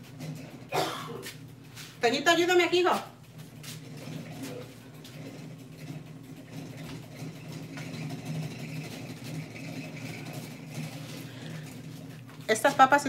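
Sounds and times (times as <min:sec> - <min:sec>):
appliance motor hum: 0:00.0 - 0:13.0.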